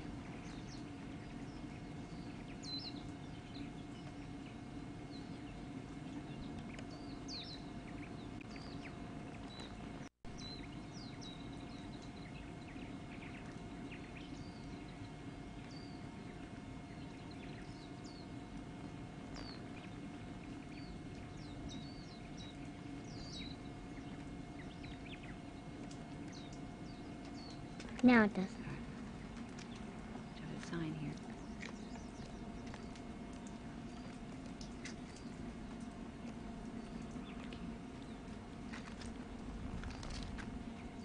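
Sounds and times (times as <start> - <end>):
birds chirping: 0.0 - 41.0
steady low hum: 0.0 - 41.0.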